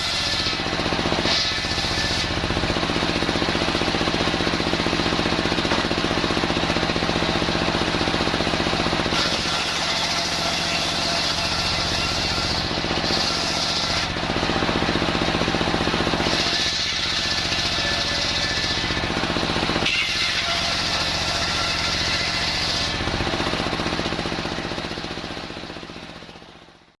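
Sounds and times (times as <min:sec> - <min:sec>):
circular saw cutting wood: 0:00.0 - 0:26.7.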